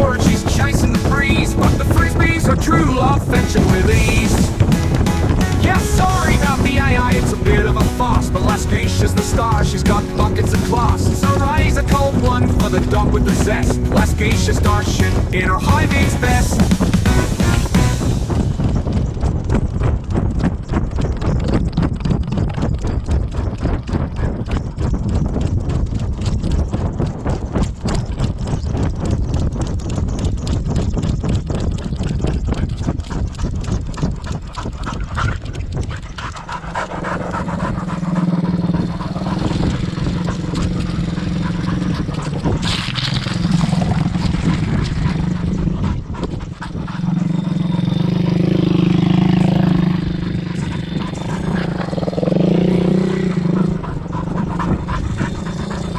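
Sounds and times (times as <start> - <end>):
pit bike engine running: 0.0 - 55.9.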